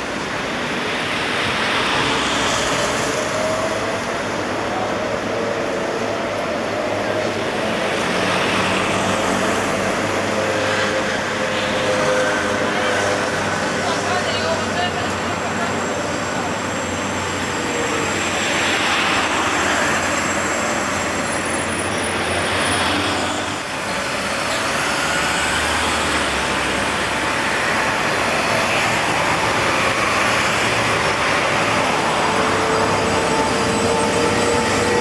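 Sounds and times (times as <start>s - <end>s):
road traffic: 0.0s - 35.0s
tram passing close by: 0.0s - 35.0s
tram rumble and rail noise: 0.0s - 35.0s.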